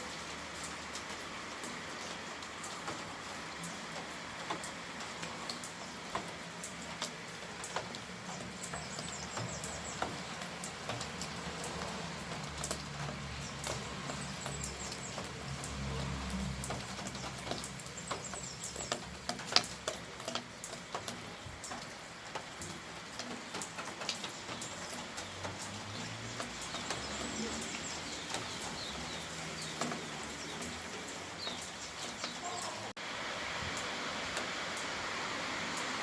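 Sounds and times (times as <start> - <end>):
rain drops pattering: 0.0 - 36.0
rain hiss: 0.0 - 36.0.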